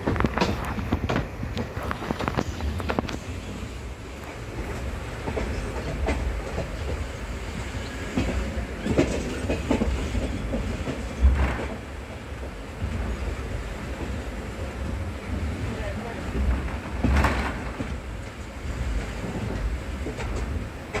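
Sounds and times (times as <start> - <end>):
wheels clacking over rail joints: 0.0 - 3.4, 4.2 - 13.1, 15.8 - 21.0
train rumbling on rails: 0.0 - 21.0.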